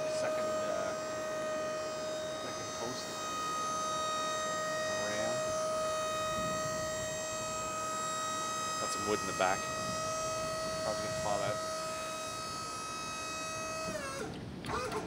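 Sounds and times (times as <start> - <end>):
hydraulic pump motor whining: 0.0 - 15.0.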